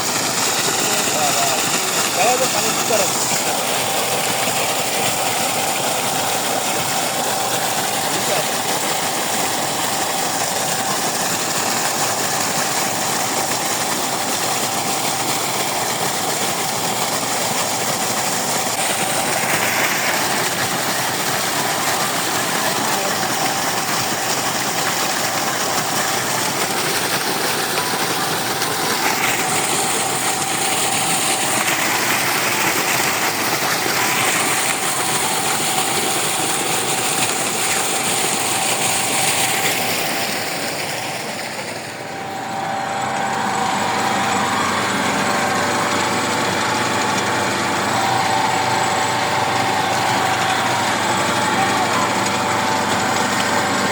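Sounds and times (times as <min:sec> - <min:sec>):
electric pump motor hum: 0:00.0 - 0:53.9
rushing pumped water: 0:00.0 - 0:53.9.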